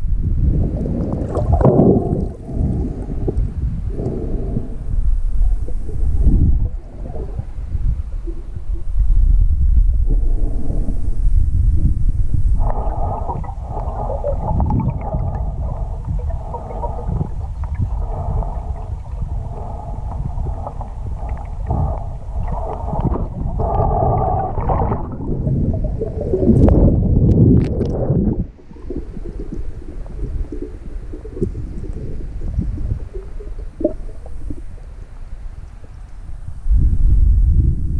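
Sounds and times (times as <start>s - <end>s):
underwater river rumble and gurgling: 0.0s - 37.9s.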